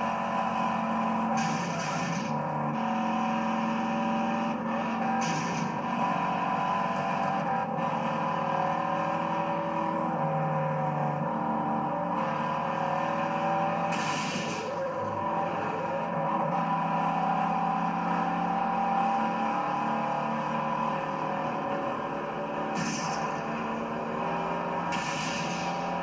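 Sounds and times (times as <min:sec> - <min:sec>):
car engines at high revs: 0:00.0 - 0:26.0.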